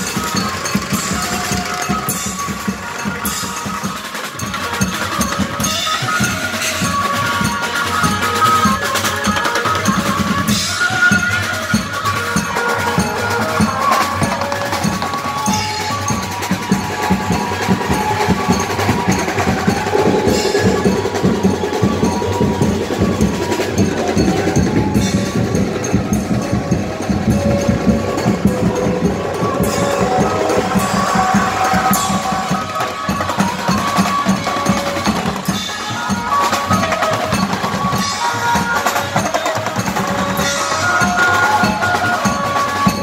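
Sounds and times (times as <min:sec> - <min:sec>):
drum kit played loud: 0:00.0 - 0:43.0
live band music: 0:00.0 - 0:43.0.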